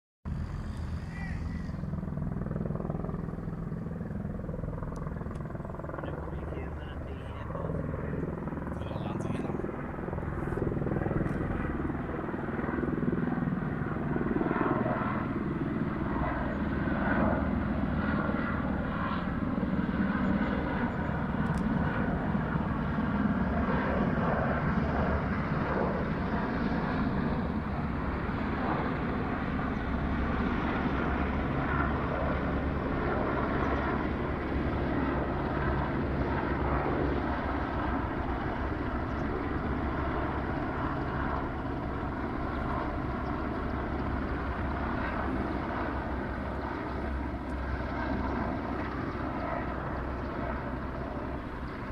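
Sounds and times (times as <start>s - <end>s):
helicopters flying overhead: 0.3s - 51.9s.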